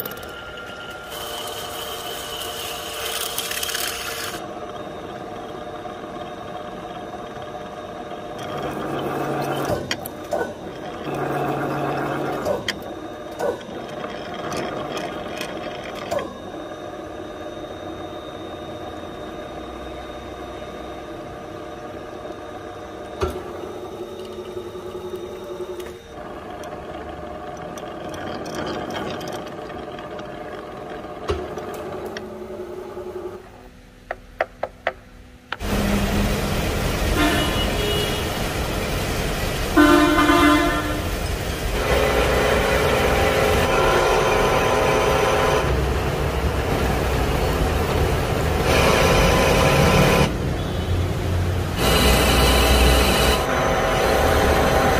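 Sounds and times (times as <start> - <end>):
lathe running: 0.0 - 34.2, 35.5 - 54.9
drilling machine humming: 0.0 - 54.9.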